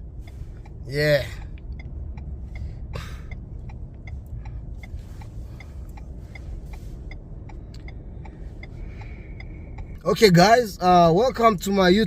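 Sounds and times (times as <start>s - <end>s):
truck driving rumble: 0.0s - 12.0s
turn signal ticking: 0.0s - 12.0s.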